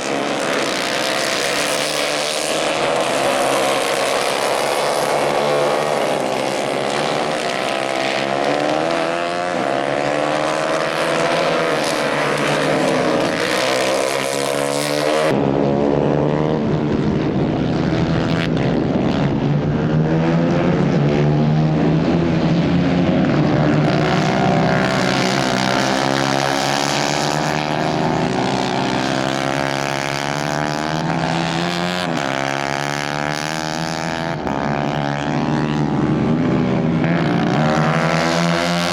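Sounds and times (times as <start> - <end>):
racing kart engines: 0.0 - 38.9.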